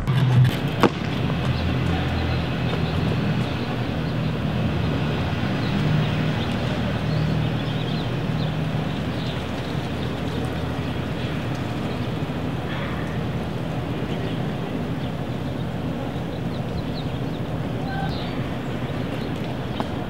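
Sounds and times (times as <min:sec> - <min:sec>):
low motor drone: 0:00.0 - 0:20.0
outdoor noise: 0:00.0 - 0:20.0.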